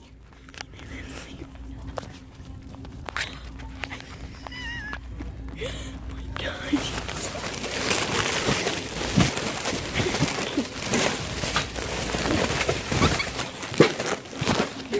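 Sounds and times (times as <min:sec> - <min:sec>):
packs knocking: 0:00.0 - 0:14.9
plastic wrapping crinkling: 0:00.0 - 0:14.9.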